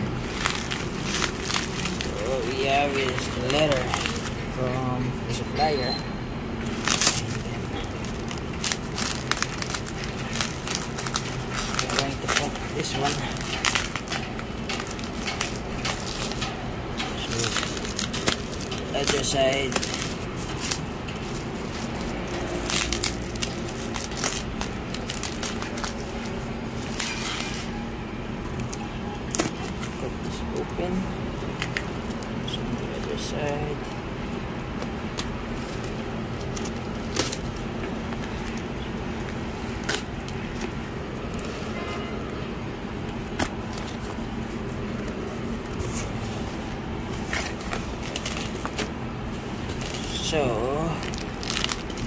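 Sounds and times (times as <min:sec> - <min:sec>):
bubble wrap and plastic crinkling: 0:00.0 - 0:05.1, 0:06.6 - 0:52.0.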